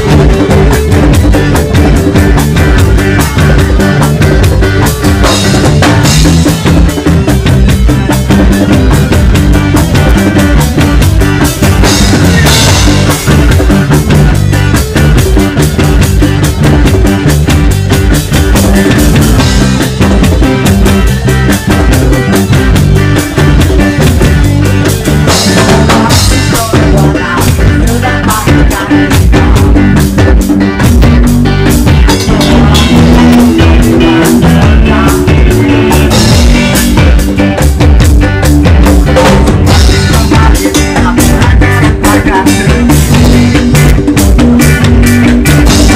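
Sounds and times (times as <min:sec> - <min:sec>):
drum rimshots: 0:00.0 - 0:45.9
reggae band playing live: 0:00.0 - 0:45.9.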